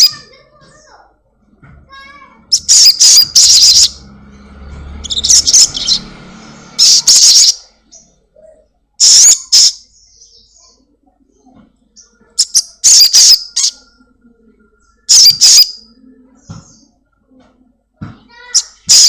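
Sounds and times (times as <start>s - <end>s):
bird chirping and twittering: 0.0s - 17.2s, 18.4s - 19.0s.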